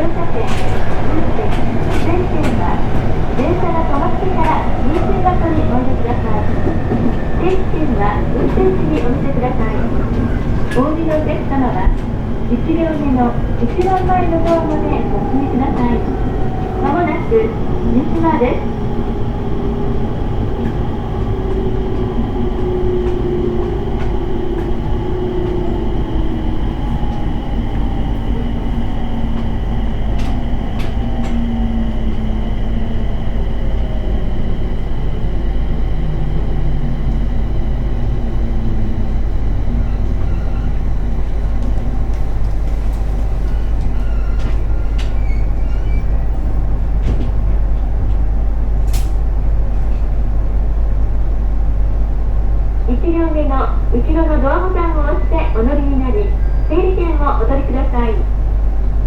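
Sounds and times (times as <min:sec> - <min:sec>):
train running rumble: 0:00.0 - 0:59.0
train traction motor whine: 0:00.0 - 0:59.0.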